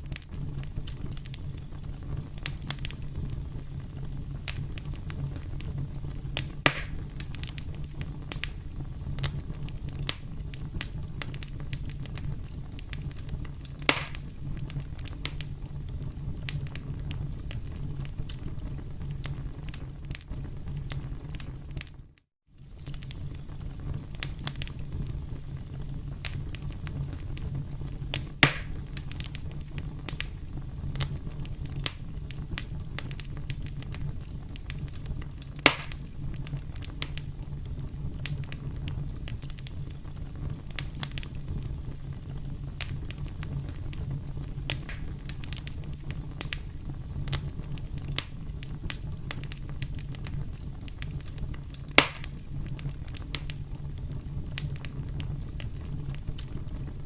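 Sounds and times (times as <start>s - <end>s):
campfire crackling: 0.0s - 22.0s, 22.6s - 57.0s
loud fire pops: 0.0s - 57.0s.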